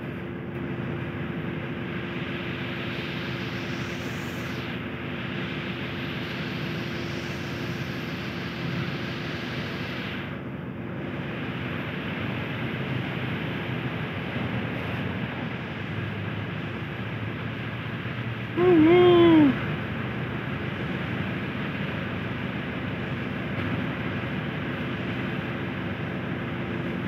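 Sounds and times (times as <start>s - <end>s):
mechanical drone: 0.0s - 27.0s.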